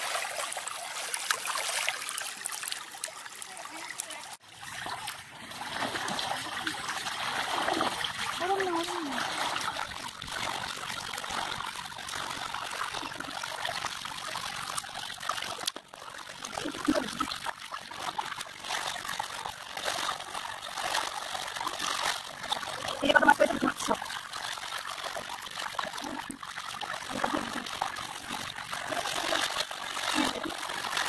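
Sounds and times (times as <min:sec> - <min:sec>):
water trickling in shallow current: 0:00.0 - 0:31.0.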